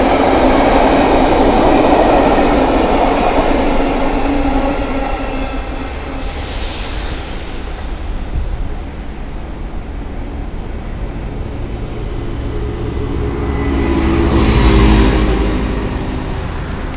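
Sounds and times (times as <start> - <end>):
locomotive rumble: 0.0 - 16.9.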